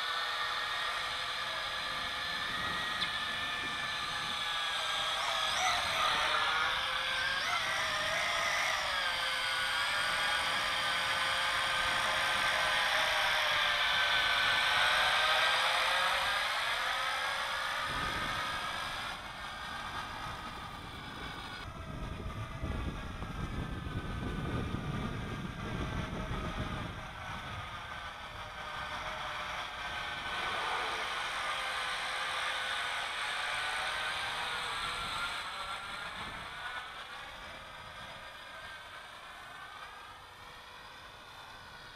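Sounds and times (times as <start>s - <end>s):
drone motors whining: 0.0s - 41.9s
wind buffeting microphone: 1.1s - 16.8s, 17.4s - 39.0s.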